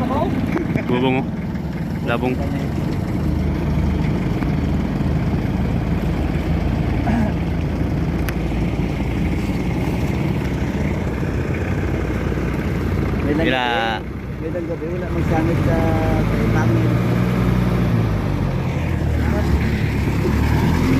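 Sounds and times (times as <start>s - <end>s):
travel noise: 0.0s - 20.9s
vehicle engine droning: 0.0s - 20.9s.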